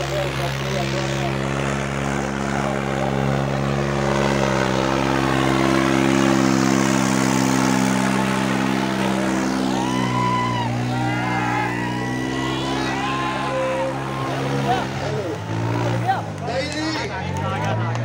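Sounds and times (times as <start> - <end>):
onlookers calling out: 0.0 - 18.0
tractor diesel engine under load: 0.0 - 18.0.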